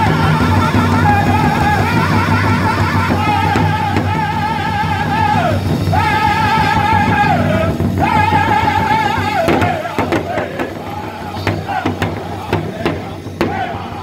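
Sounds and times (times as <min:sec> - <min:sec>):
large hide drum beating: 0:00.0 - 0:14.0
men singing in unison: 0:00.0 - 0:14.0.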